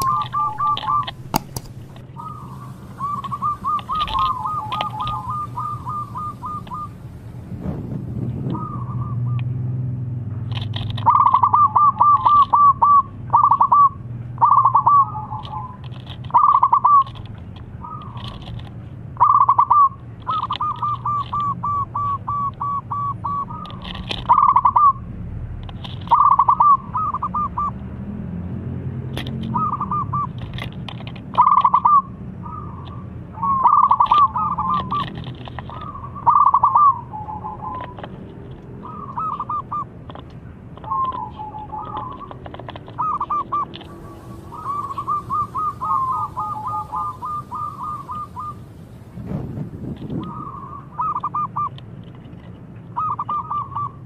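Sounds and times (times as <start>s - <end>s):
dove cooing: 0.0s - 7.1s, 8.4s - 9.5s, 11.0s - 18.6s, 19.2s - 25.0s, 26.0s - 27.8s, 29.4s - 30.7s, 31.3s - 39.9s, 40.8s - 48.9s, 50.0s - 51.8s, 53.0s - 54.0s.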